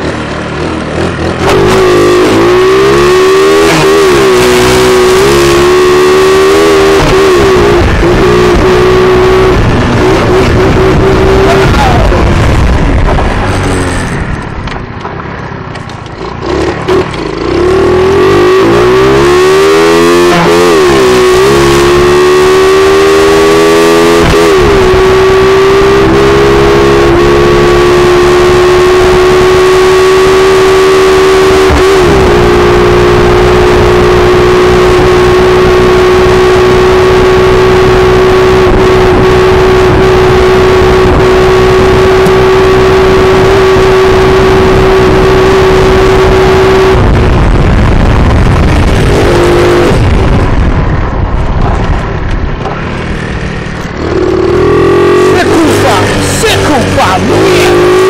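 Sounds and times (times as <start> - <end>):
dirt bike engine revving: 0.0 - 14.5, 15.4 - 58.0.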